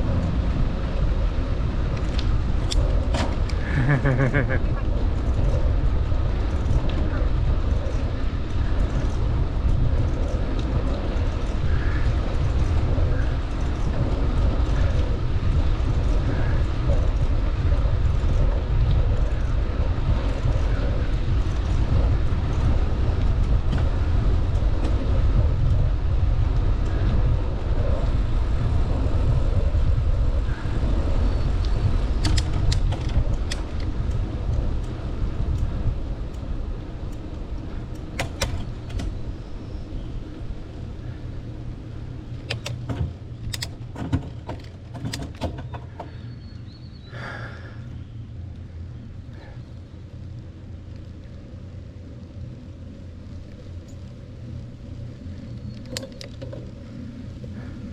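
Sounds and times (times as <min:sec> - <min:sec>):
bike clicks and rattles: 0:00.0 - 0:57.9
wind rumbling on microphone: 0:00.0 - 0:57.9.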